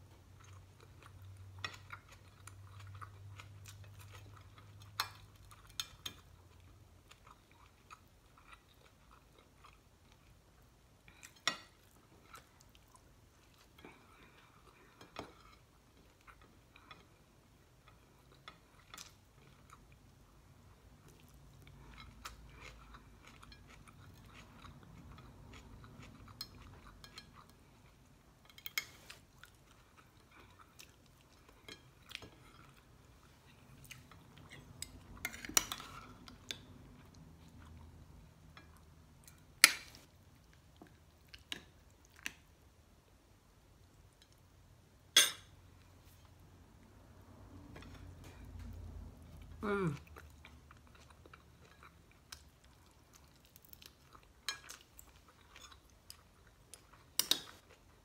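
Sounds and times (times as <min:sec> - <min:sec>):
person chewing: 0:00.2 - 0:10.4, 0:11.0 - 0:42.6, 0:47.6 - 0:58.0.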